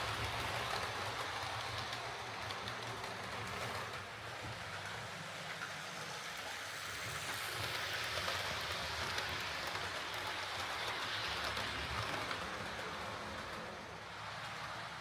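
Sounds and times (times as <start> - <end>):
model train whirring on rails: 0.0 - 15.0.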